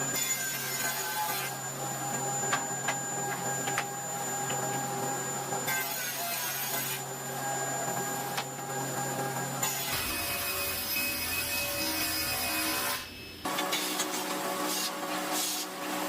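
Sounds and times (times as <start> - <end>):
woodworking power tools running: 0.0 - 16.0.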